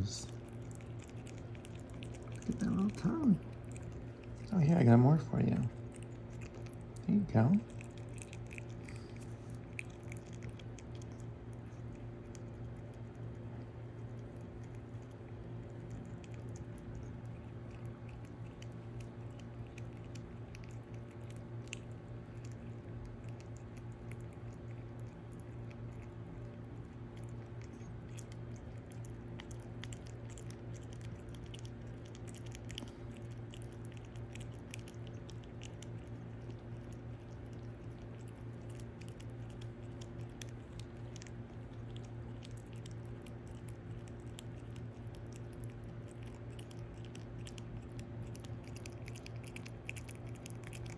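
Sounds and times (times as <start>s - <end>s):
animal crunching a snack: 0.0s - 50.9s
low hum: 0.0s - 50.9s.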